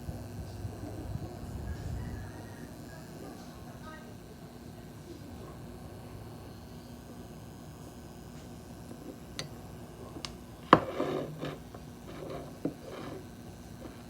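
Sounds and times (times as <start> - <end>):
power supply coil whine: 0.0 - 14.0.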